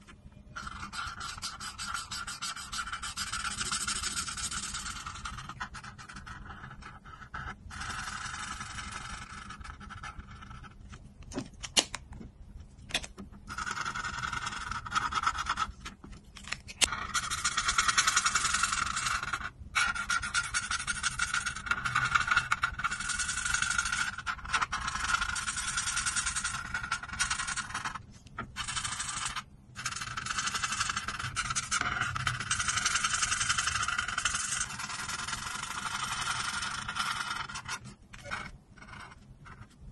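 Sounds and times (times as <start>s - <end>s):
marker scraping on paper: 0.0s - 11.0s, 13.5s - 39.9s.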